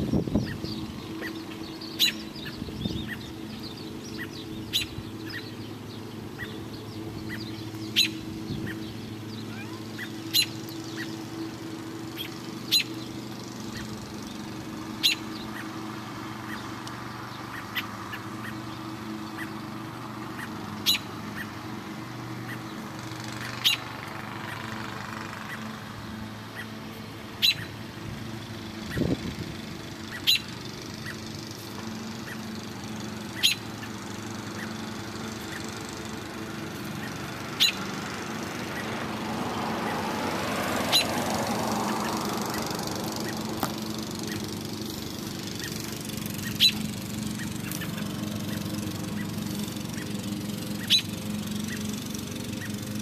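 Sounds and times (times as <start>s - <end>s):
bird calling sharp notes: 0.0s - 25.8s, 26.4s - 27.8s, 29.8s - 53.0s.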